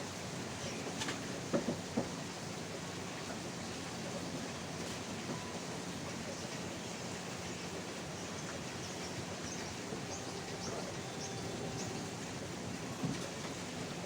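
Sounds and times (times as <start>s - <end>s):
rain falling: 2.6s - 14.0s.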